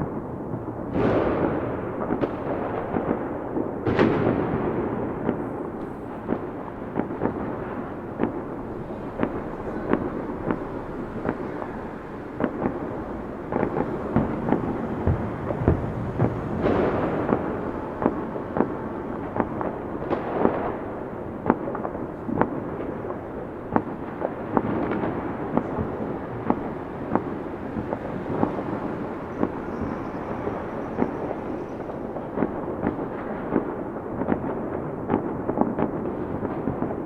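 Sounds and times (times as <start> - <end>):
firework bangs: 0.0 - 37.0
rumbling crackle: 0.0 - 37.0.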